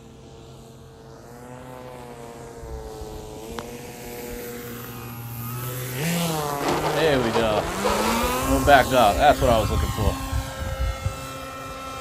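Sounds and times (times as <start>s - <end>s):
model plane motor humming: 0.0s - 12.0s.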